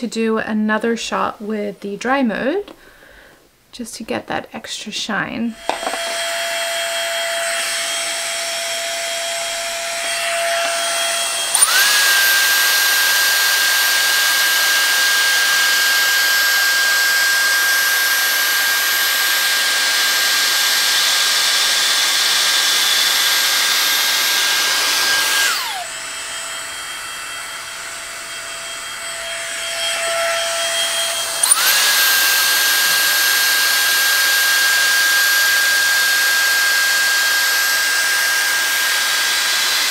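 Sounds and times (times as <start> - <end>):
hair straightener air rush: 5.5 - 39.9.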